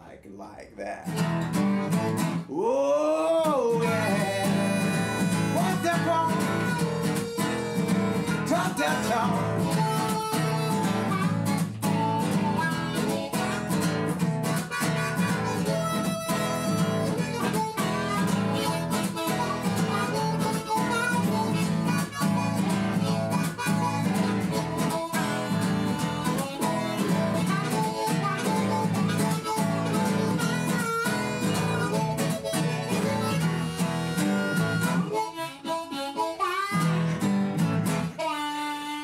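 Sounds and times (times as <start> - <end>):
instrumental blues-rock music: 1.1 - 2.5, 3.6 - 39.0.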